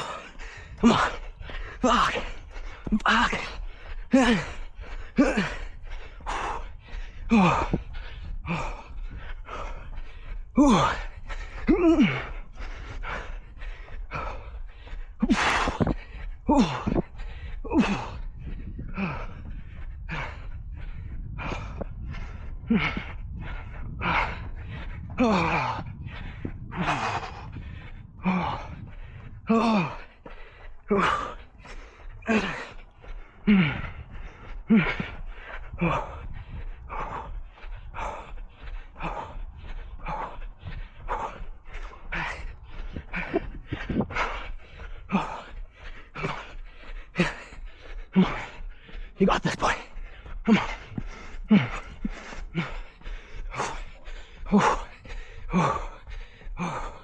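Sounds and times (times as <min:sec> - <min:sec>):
person breathing heavily: 0:00.0 - 0:57.0.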